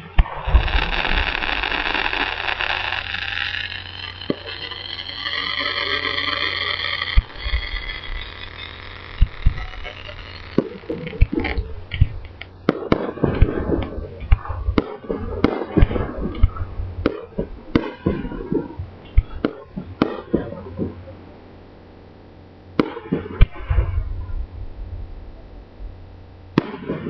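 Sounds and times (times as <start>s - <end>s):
fireworks bursting: 0.0s - 21.2s, 22.8s - 23.9s, 26.6s - 27.0s.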